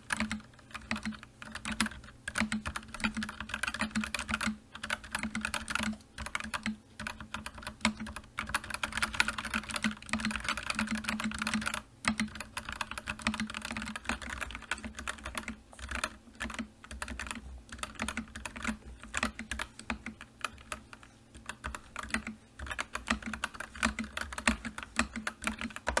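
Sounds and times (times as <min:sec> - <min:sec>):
fast typing on keyboard: 0:00.0 - 0:26.0.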